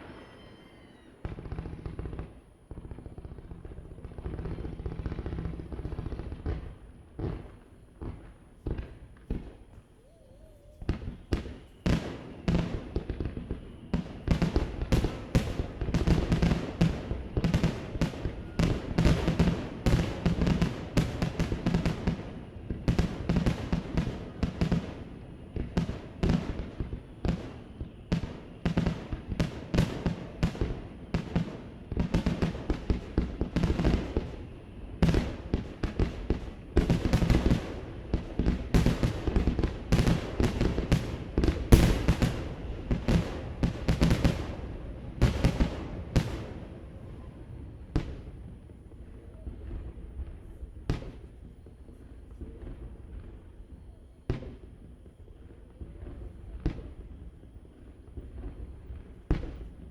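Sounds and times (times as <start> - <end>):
fireworks bangs with echoes: 0.0 - 59.9.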